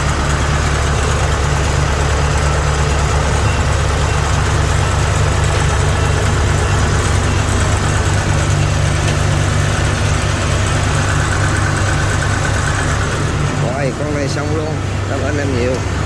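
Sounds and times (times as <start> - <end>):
diesel engine low rumble: 0.0 - 16.0.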